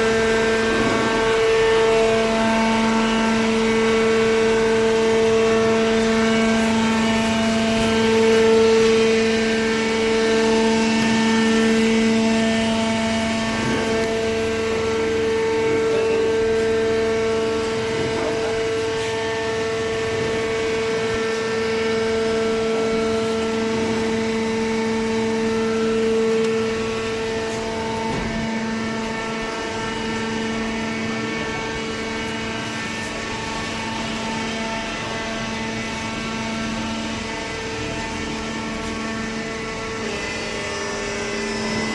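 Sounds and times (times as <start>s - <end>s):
pump motor humming: 0.0s - 41.9s.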